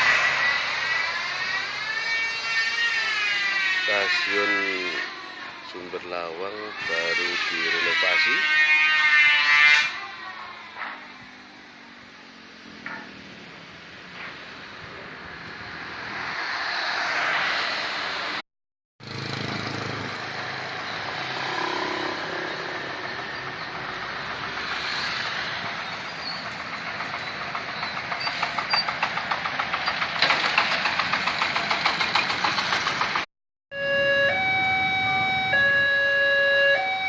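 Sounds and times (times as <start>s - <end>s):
vehicle noise: 0.0s - 18.4s, 19.0s - 37.0s.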